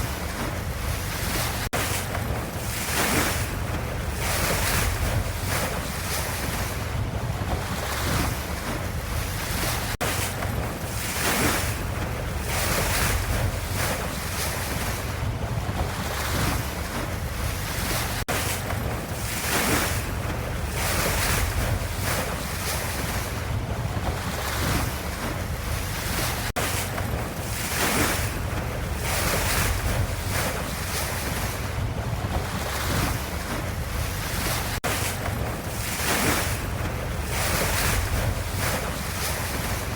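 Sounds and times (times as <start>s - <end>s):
ocean waves washing: 0.0s - 39.9s.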